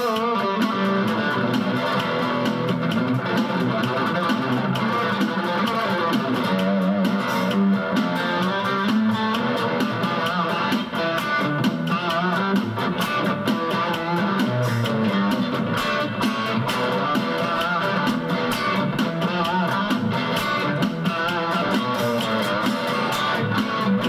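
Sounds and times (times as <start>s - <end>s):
electric guitar melody with vibrato: 0.0s - 24.0s
steady bass line: 0.0s - 24.0s.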